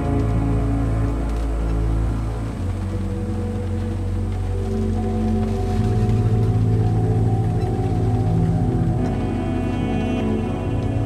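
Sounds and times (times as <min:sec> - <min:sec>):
music with long held notes: 0:00.0 - 0:11.0
pulsing low bass: 0:00.0 - 0:11.0.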